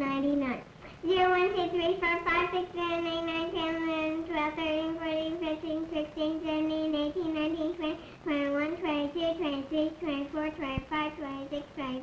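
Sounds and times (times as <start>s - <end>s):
girl counting in a sing-song chant: 0.0s - 12.0s.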